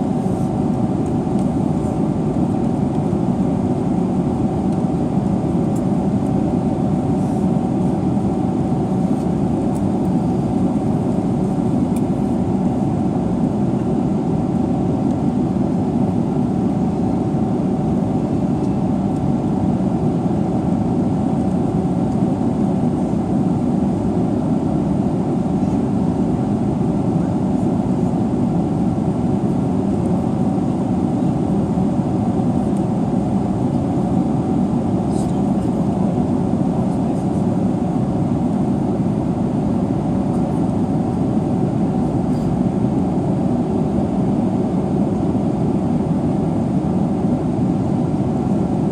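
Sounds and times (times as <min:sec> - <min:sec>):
jet engines and air systems: 0:00.0 - 0:48.9.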